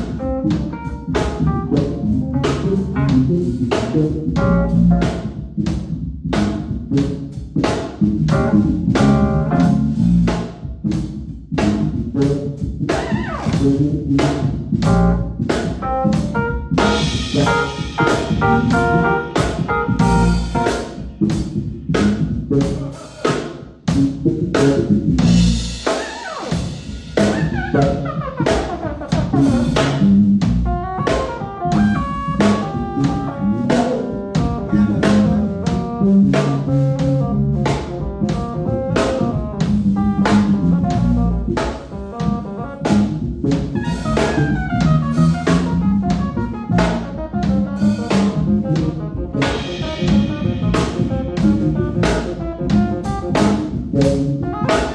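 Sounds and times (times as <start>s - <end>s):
drum kit groove: 0.0s - 54.9s
live band playing: 0.0s - 54.9s.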